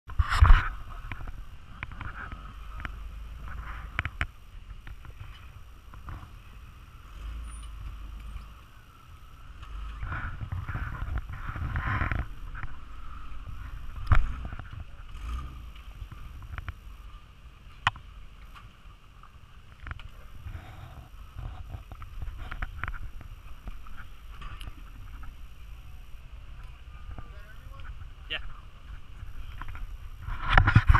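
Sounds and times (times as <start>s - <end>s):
buggy engine running: 0.1s - 30.9s.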